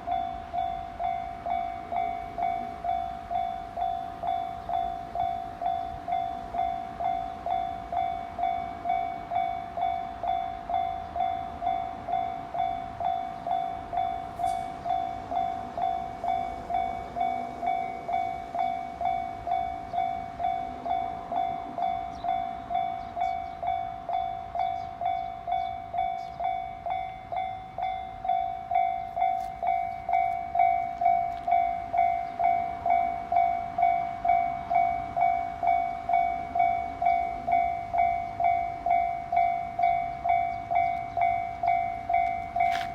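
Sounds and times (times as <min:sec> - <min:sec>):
level crossing warning bell: 0:00.0 - 0:42.9.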